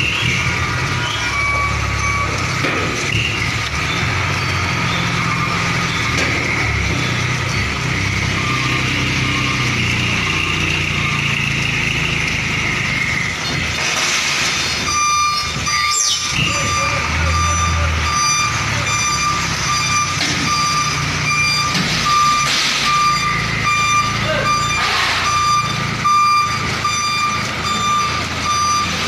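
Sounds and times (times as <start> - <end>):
reversing beeper: 0.0 - 13.2, 14.8 - 29.0
truck diesel engine droning: 0.0 - 29.0.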